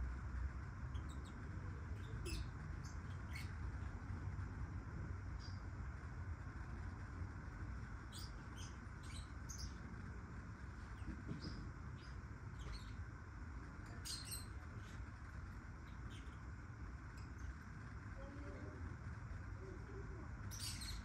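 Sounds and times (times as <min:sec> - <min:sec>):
low background rumble: 0:00.0 - 0:21.0
lovebirds chirping: 0:00.7 - 0:04.4, 0:05.1 - 0:21.0.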